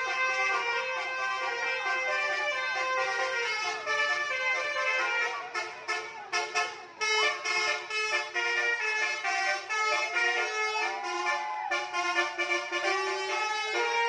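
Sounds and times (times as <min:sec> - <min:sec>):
musical multi-tone air horn: 0:00.0 - 0:14.0.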